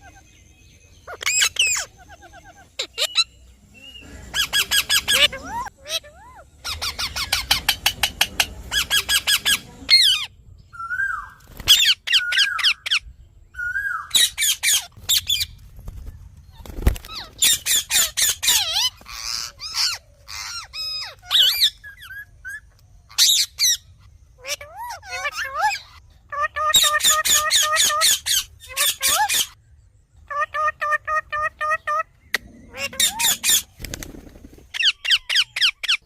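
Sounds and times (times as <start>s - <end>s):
parrots screeching and whistling: 1.0s - 3.4s, 4.0s - 15.5s, 17.0s - 29.6s, 30.3s - 33.8s, 34.7s - 36.0s.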